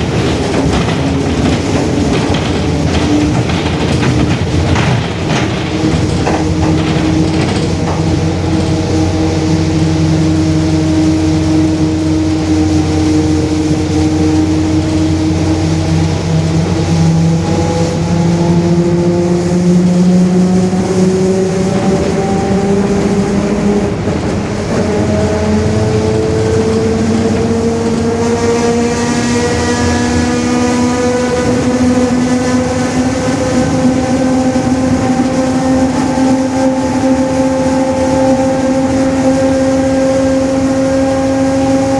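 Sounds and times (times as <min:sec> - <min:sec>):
bus differential whine: 0:00.0 - 0:41.9
diesel engine drone: 0:00.0 - 0:41.9.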